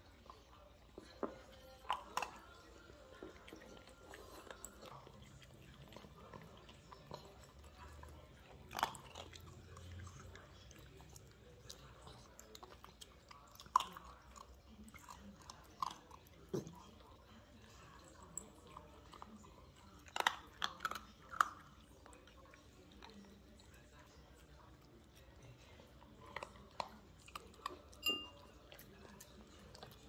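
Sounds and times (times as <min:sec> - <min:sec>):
puppy chewing dry kibble: 0:00.0 - 0:30.0.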